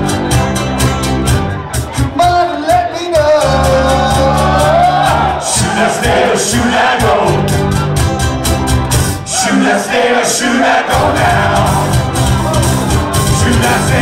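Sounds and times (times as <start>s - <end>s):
live band with singing: 0.0s - 14.0s.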